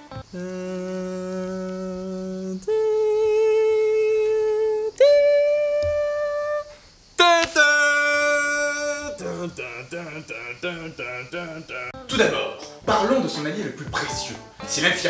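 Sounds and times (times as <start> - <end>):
person singing long held notes: 0.0 - 12.1.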